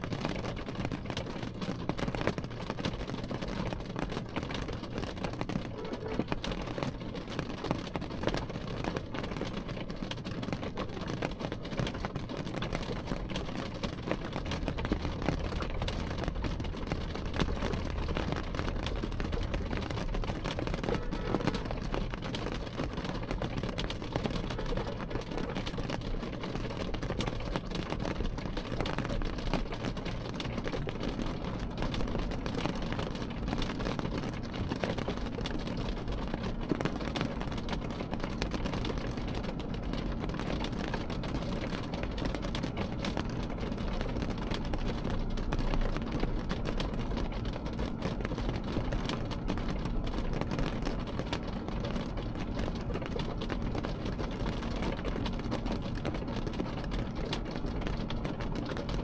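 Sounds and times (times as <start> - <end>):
rain on window glass: 0.0 - 59.0.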